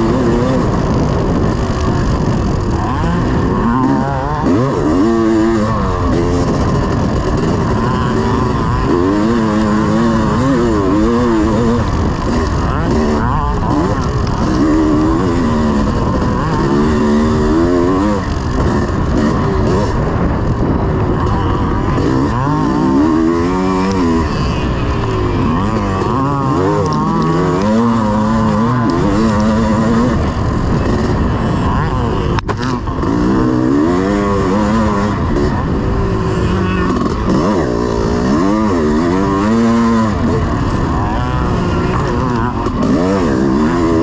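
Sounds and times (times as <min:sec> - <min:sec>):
two-stroke motorcycle engine revving: 0:00.0 - 0:44.0.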